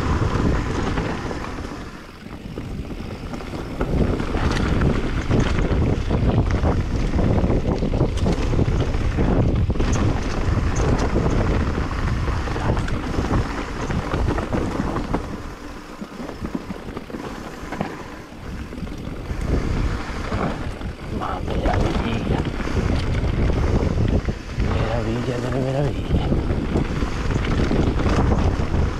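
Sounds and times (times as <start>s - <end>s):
bike tyre rumble: 0.0s - 28.9s
wind buffeting microphone: 0.0s - 28.9s.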